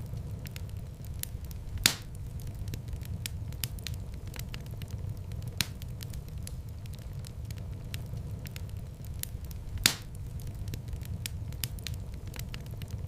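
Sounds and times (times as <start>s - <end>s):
fire crackling: 0.0s - 13.0s
fire pops: 0.0s - 13.0s.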